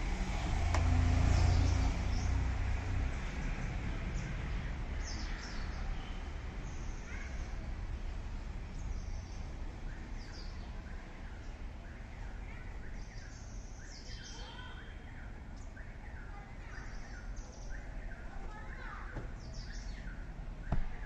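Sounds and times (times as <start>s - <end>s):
small birds chirping: 1.2s - 21.0s.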